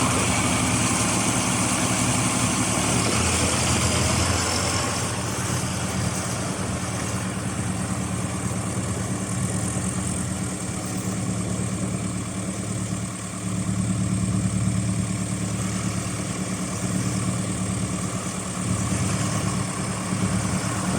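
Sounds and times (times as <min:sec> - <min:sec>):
tractor diesel engine idling: 0:00.0 - 0:20.9.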